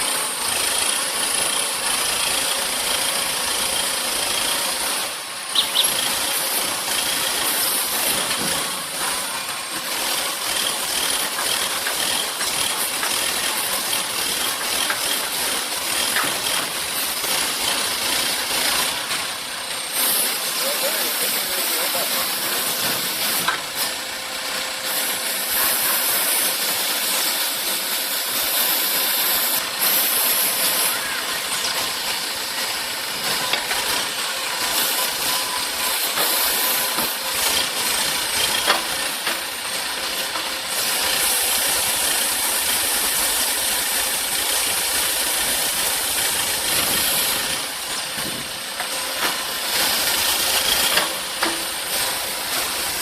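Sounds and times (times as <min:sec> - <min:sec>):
heavy equipment engine running: 0:00.0 - 0:53.0
loud steady hiss: 0:00.0 - 0:53.0.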